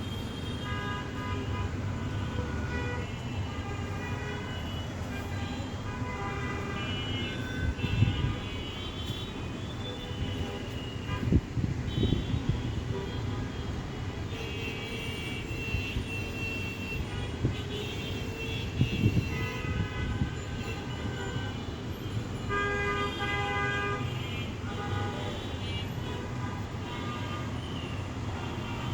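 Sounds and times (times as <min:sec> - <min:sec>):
vehicle horns honking: 0:00.0 - 0:28.9.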